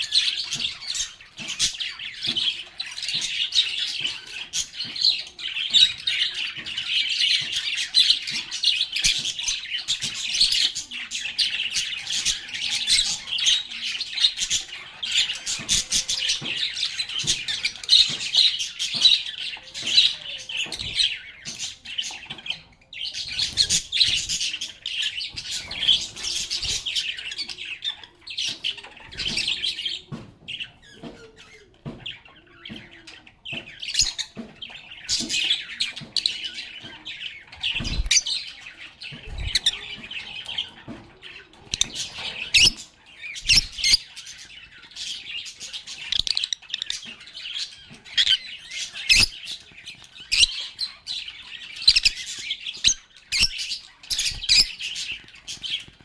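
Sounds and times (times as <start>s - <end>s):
lovebirds chirping and chattering: 0.0s - 56.0s.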